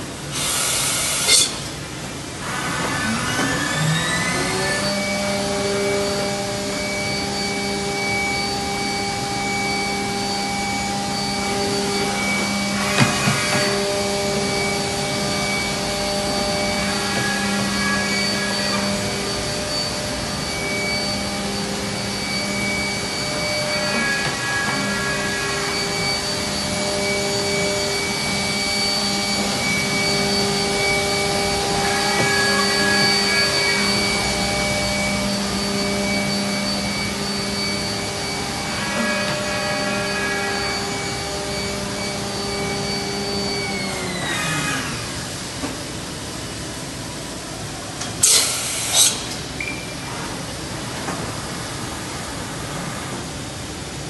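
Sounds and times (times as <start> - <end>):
machining center spindle whine: 0.0 - 54.0.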